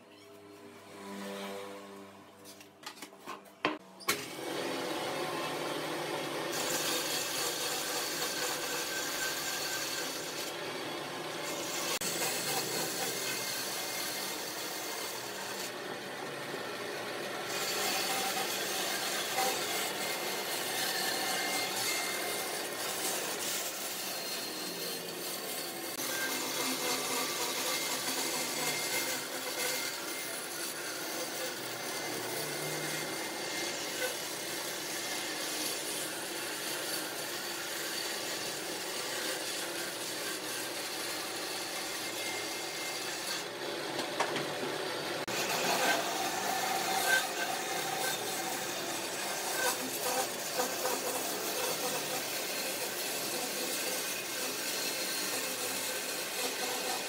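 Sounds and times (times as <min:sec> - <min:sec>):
power tool working wood: 0:04.1 - 0:57.0.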